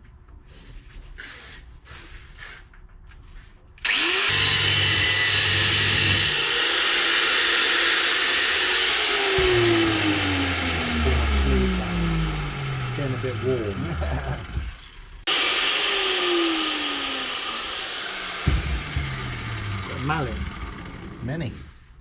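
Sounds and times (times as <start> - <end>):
angle grinder cutting metal: 3.8 - 21.5.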